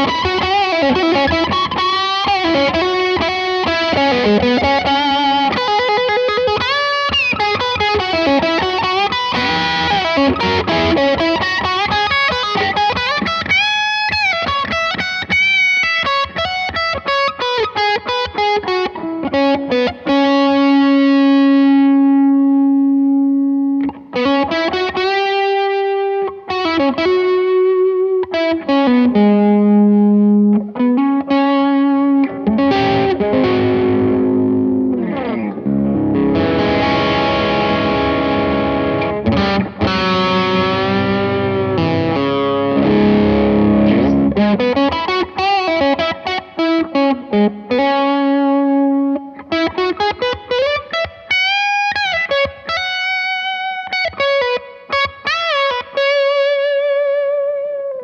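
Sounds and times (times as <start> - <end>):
distorted electric guitar lead: 0.0 - 58.0
distorted guitar chords: 0.0 - 58.0.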